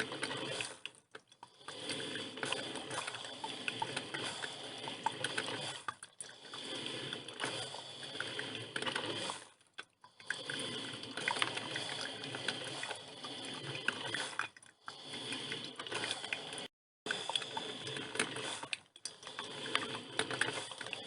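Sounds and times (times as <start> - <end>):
coffee machine gurgling and hissing: 0.0 - 21.0.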